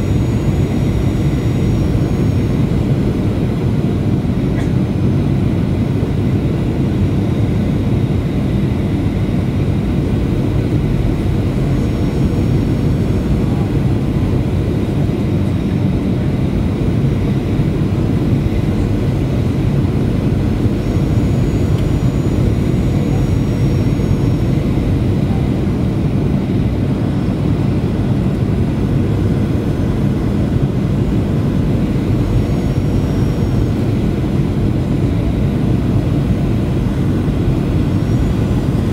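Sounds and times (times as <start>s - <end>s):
faint high whine: 0.0s - 4.7s, 5.7s - 38.9s
jet engines and airflow rumble: 0.0s - 38.9s.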